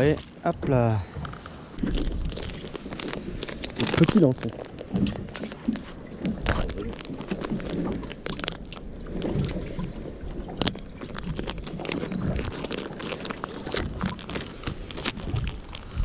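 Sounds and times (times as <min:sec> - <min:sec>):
wind rumble on microphone: 0:00.0 - 0:16.0
plastic bag crinkling: 0:01.8 - 0:09.2, 0:10.6 - 0:16.0.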